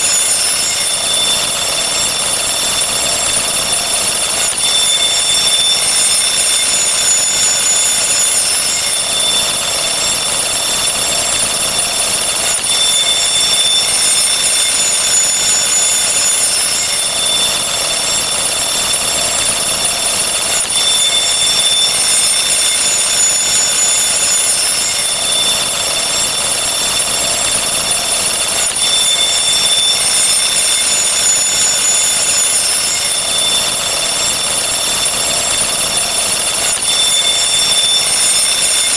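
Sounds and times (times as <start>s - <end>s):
steady high tones: 0.0s - 38.9s.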